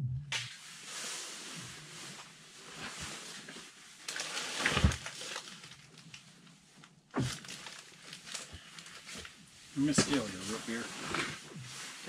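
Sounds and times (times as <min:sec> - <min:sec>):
rustling of winter clothing: 0:00.5 - 0:12.0.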